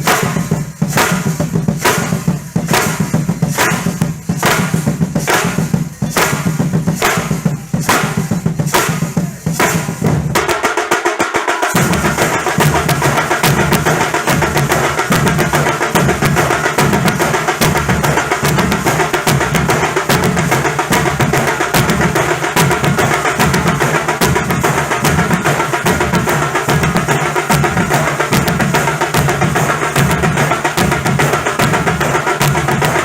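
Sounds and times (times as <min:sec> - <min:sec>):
dhol and tasha drumming: 0:00.0 - 0:33.0.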